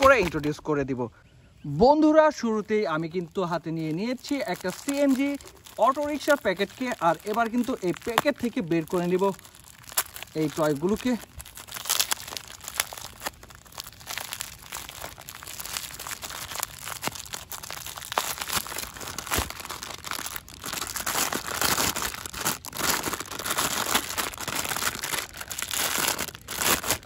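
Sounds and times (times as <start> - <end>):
plastic film crinkling: 0.0 - 0.6, 2.6 - 27.0.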